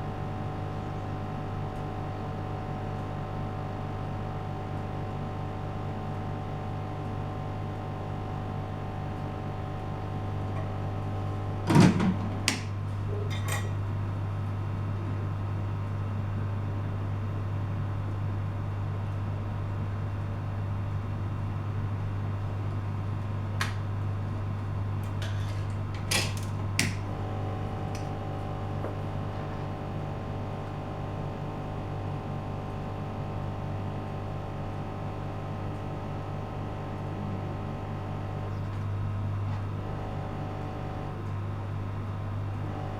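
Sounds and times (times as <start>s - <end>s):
low machine hum: 0.0s - 42.9s.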